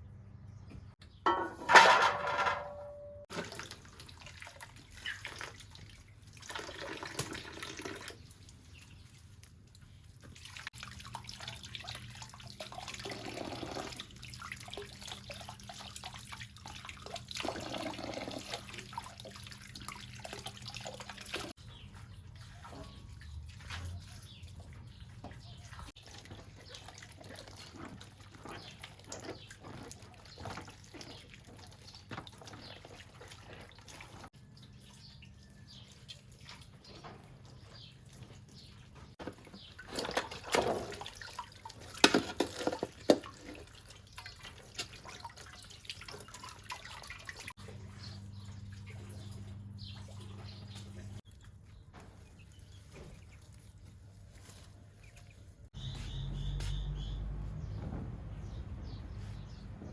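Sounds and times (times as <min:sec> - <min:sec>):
water dripping and splashing: 0:03.3 - 0:56.8.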